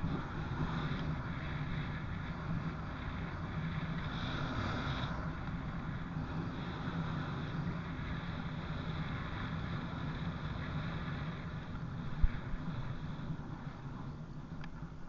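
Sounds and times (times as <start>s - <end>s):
trail bike running: 0.0s - 15.0s
wind on microphone: 0.0s - 15.0s.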